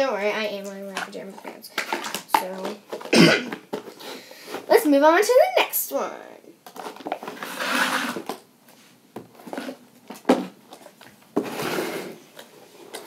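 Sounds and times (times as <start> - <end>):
rustling and scraping handling: 0.0 - 4.8, 6.6 - 13.0.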